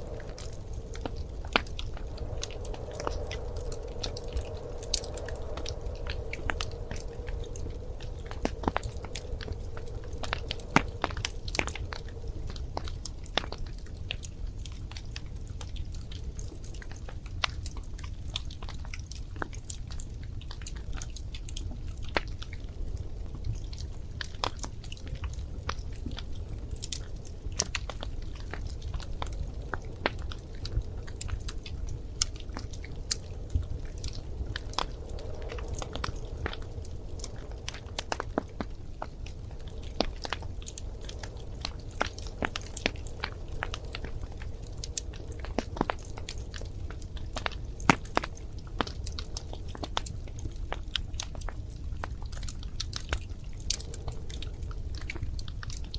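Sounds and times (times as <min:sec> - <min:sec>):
rumble of flames: 0:00.0 - 0:55.9
wood fire crackling: 0:00.0 - 0:55.9.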